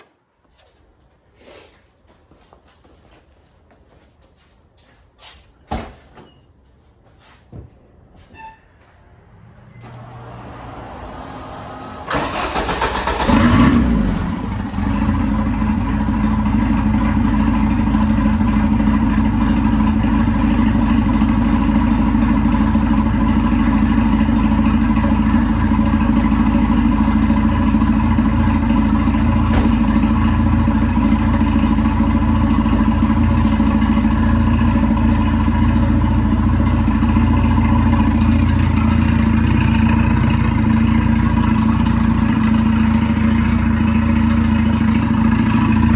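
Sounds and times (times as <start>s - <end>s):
car engine starting and idling: 8.9s - 45.9s.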